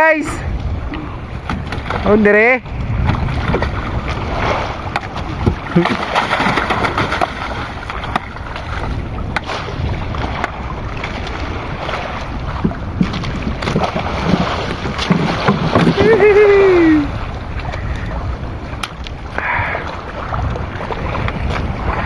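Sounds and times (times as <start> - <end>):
water sloshing against boat: 0.0 - 22.0
wind buffeting microphone: 0.0 - 22.0.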